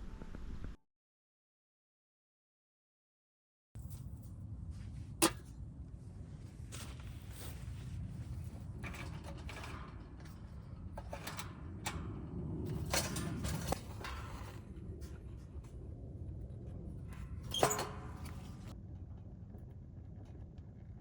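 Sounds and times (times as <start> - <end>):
steady low rumble: 3.8 - 21.0.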